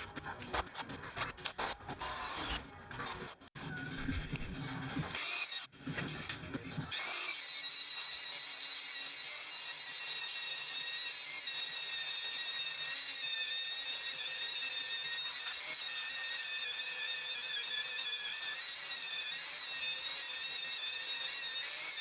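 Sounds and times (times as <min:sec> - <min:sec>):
electric drill drilling metal: 0:01.4 - 0:03.3, 0:03.9 - 0:05.7, 0:06.9 - 0:22.0.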